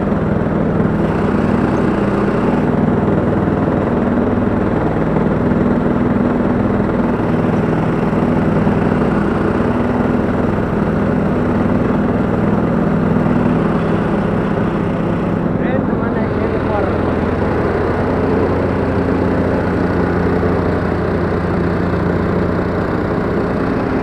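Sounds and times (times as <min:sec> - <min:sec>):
lawn tractor engine droning: 0:00.0 - 0:24.0.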